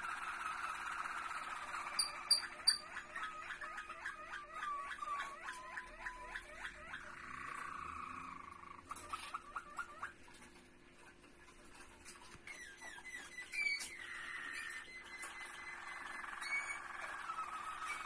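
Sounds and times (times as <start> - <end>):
canaries singing: 0.0 - 18.0.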